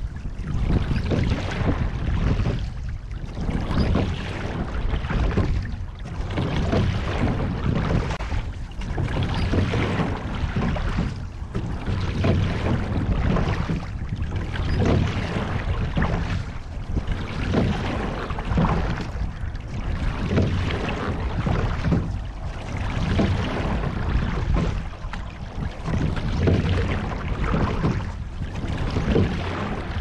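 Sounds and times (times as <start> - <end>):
oar strokes knocking and splashing: 0.0 - 30.0
water rushing past a hull: 0.0 - 30.0.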